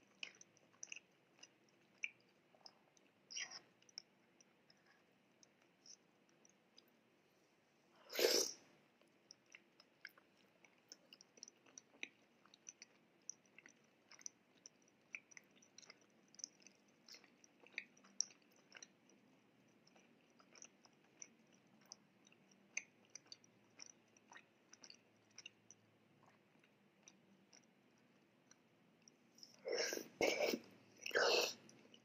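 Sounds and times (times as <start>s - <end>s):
quiet chewing: 0.0s - 32.0s.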